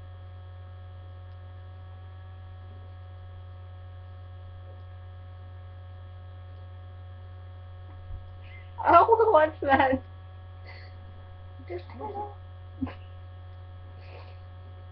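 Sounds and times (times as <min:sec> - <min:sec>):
electrical mains hum: 0:00.0 - 0:14.9.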